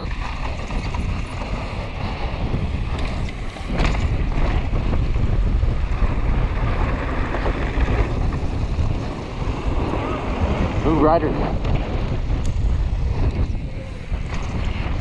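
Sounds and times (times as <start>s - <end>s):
bike tyre and trail noise: 0.0s - 15.0s
wind buffeting microphone: 0.0s - 15.0s.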